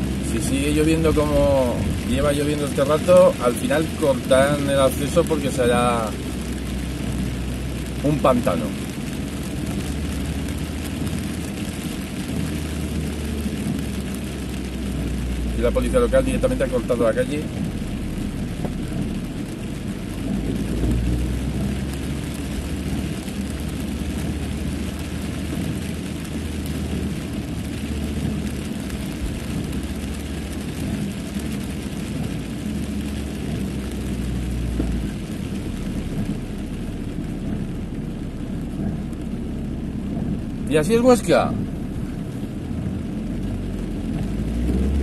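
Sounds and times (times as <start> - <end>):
car engine and tyres rumbling: 0.0 - 45.0
heavy rain hissing: 0.0 - 45.0.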